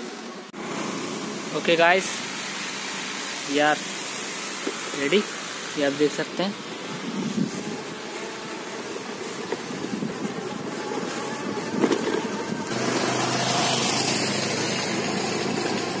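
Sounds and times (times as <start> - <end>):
wind and road rush: 0.6 - 16.0.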